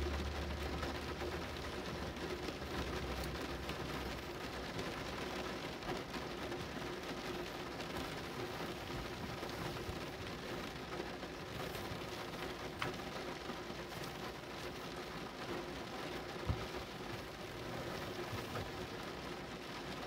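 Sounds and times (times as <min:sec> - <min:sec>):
rain drops ticking: 0:00.0 - 0:20.0.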